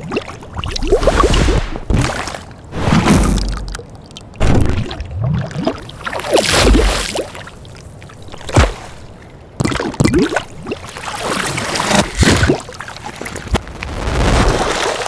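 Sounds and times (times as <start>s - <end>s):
bubbly gurgling water: 0.0s - 7.0s, 9.6s - 15.0s
water splashing and pouring: 0.0s - 7.4s, 9.7s - 15.0s
low water ambience: 0.0s - 15.0s.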